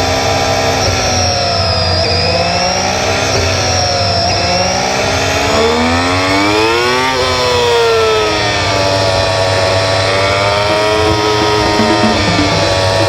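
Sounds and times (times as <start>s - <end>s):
group of motorcycle engines: 0.0s - 13.0s
motorcycle engine accelerating: 0.0s - 13.0s.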